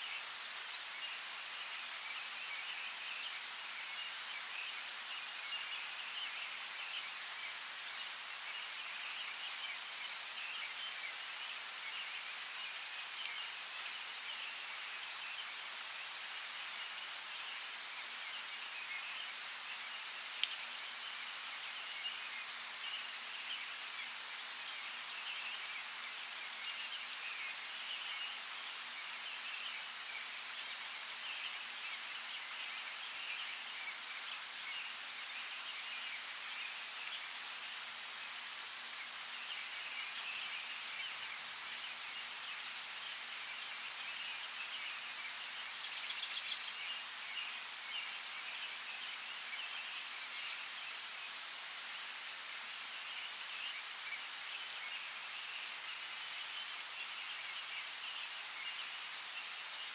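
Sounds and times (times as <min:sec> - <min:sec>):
light rain hiss: 0:00.0 - 0:59.9
small birds chirping: 0:00.1 - 0:59.9.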